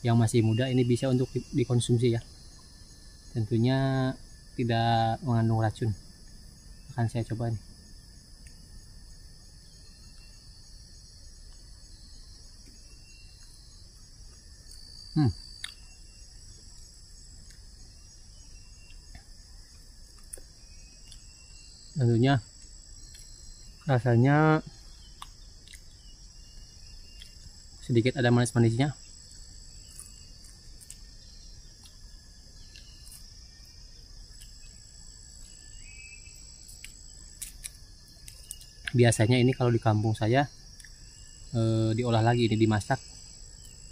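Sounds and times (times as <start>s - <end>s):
insects buzzing drone: 0.0s - 43.9s.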